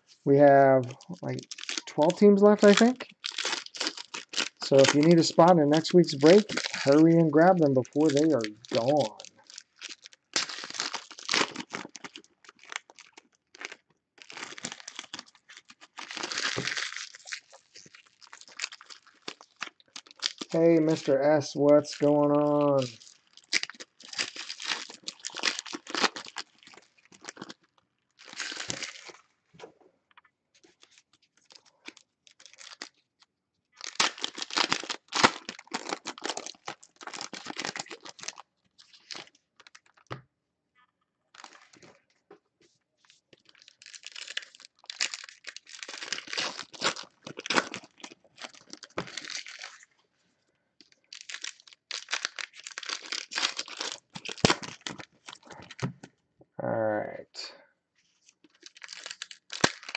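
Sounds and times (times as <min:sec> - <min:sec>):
foil wrappers tearing and crinkling: 0:00.9 - 0:29.2, 0:30.8 - 0:33.0, 0:33.8 - 0:40.1, 0:41.4 - 0:41.9, 0:43.3 - 0:49.9, 0:51.1 - 0:55.8, 0:58.2 - 0:59.9.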